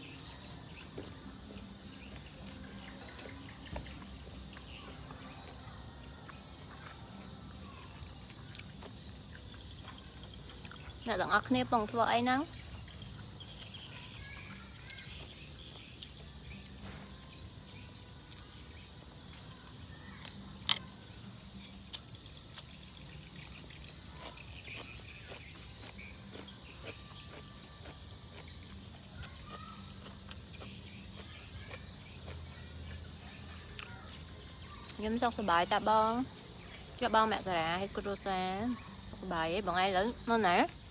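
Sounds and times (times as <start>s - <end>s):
faint bird chirps: 0.0s - 40.9s
insect calls: 0.0s - 40.9s.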